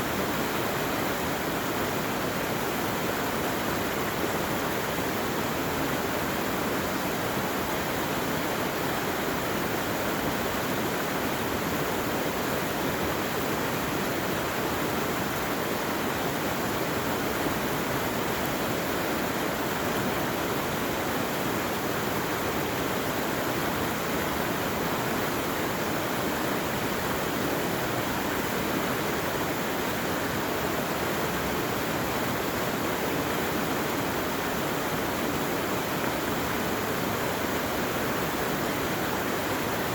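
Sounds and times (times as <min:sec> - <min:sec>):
running water in a stream: 0:00.0 - 0:39.9.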